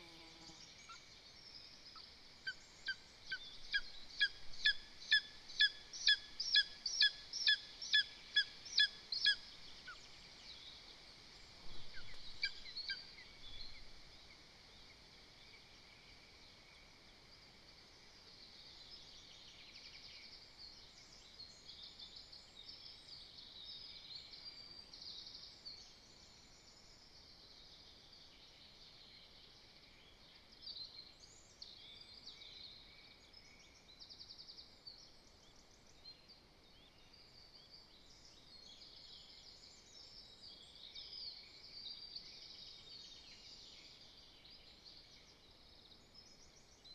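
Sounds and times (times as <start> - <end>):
faint songbird song: 0.0 - 46.9.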